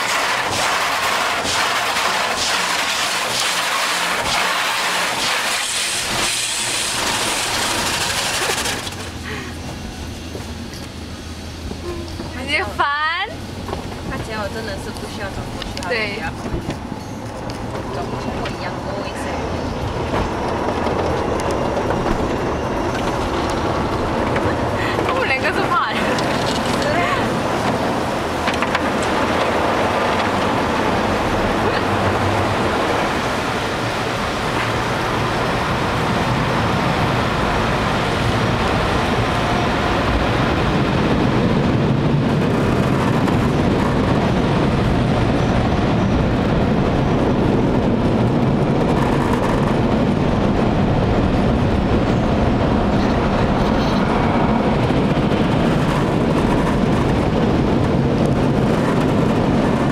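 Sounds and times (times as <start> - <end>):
car wash machinery rushing: 0.0 - 59.9.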